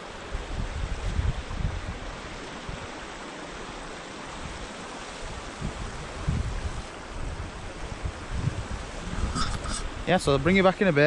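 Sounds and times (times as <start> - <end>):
wind buffeting microphone: 0.0 - 3.0, 4.3 - 10.9
stream rushing: 0.0 - 11.0.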